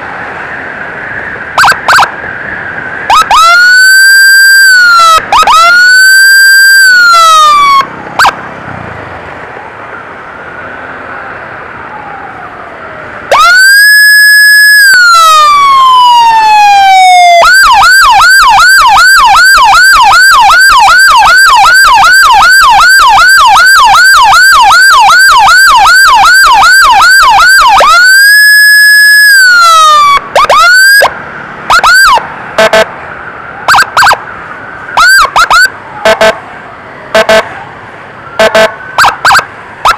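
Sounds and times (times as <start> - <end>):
emergency siren wailing and yelping: 1.5 - 2.2, 3.1 - 8.4, 11.7 - 39.9.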